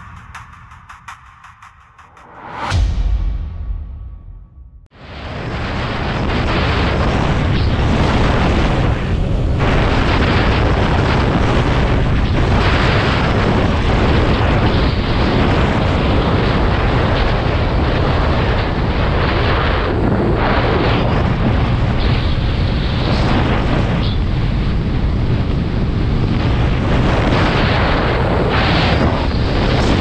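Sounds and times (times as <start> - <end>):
wind buffeting microphone: 5.0 - 30.0.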